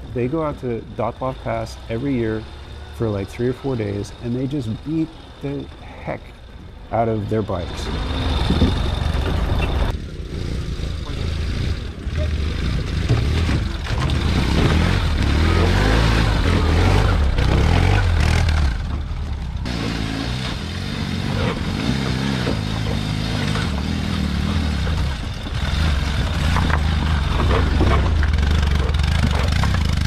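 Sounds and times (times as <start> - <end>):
motorcycle engines under load: 0.0 - 30.0.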